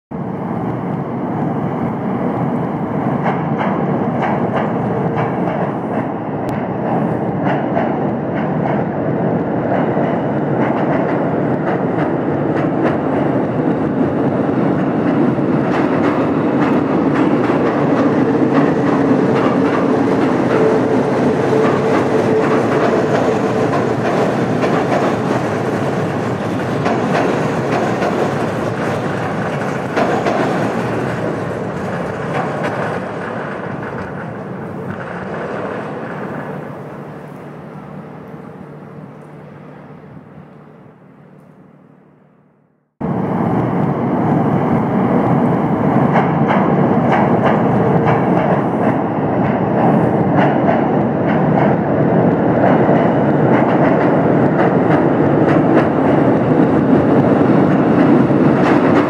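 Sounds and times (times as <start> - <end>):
train wheels clattering on rails: 2.6 - 37.5, 45.1 - 59.0.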